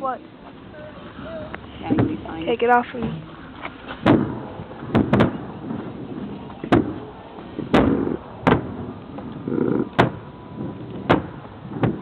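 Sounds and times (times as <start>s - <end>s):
fireworks bursting: 1.5s - 12.0s.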